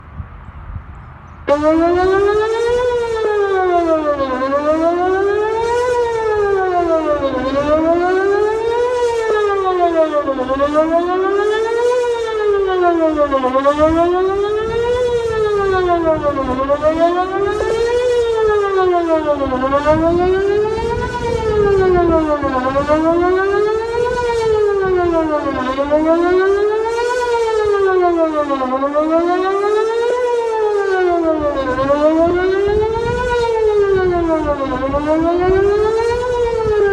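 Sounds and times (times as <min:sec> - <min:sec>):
warning siren wailing: 0:01.4 - 0:36.9.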